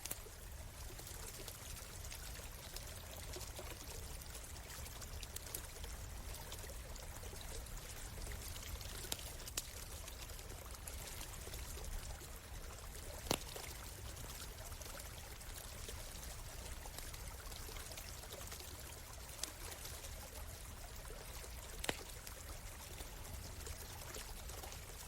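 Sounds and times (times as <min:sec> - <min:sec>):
campfire crackling and popping: 0:00.0 - 0:25.0
small stream flowing: 0:00.0 - 0:25.0.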